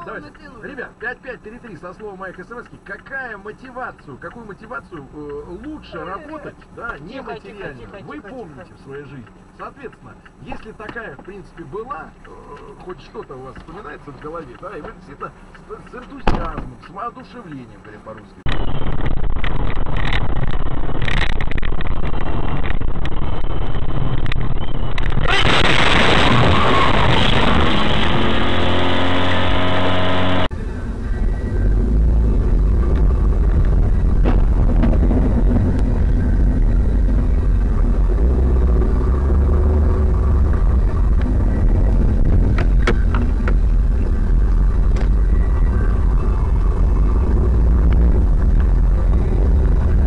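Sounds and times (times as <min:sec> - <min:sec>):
car engine and road noise: 0:00.0 - 0:50.0
vehicle rumble: 0:00.0 - 0:50.0.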